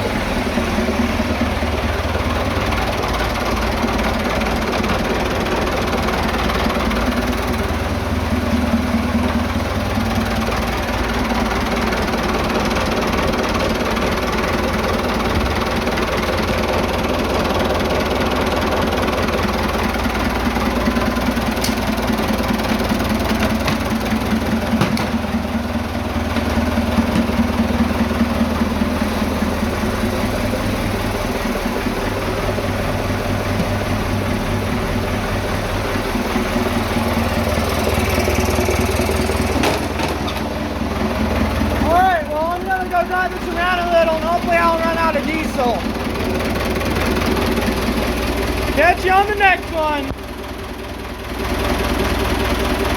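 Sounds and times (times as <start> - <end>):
tractor engine idling: 0.0 - 52.9.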